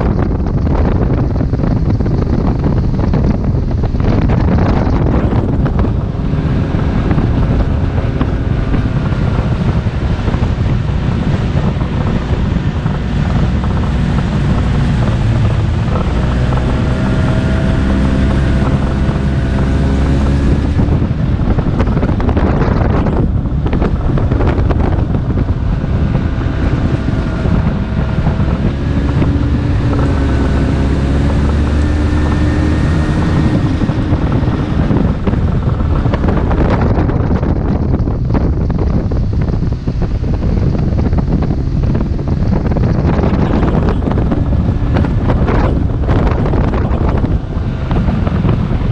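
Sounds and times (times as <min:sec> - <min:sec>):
engine running: 0:00.0 - 0:48.9
wind noise on microphone: 0:00.0 - 0:48.9.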